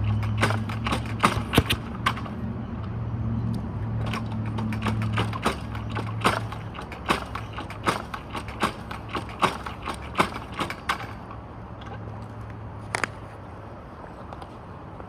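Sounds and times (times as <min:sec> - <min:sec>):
sharp mechanical clicks: 0:00.0 - 0:12.3.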